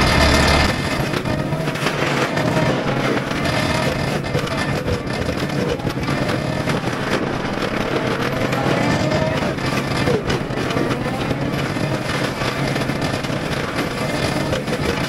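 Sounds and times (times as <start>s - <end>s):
hydraulics: 0.0s - 15.0s
mulcher head grinding brush: 0.0s - 15.0s
track loader engine: 0.0s - 15.0s.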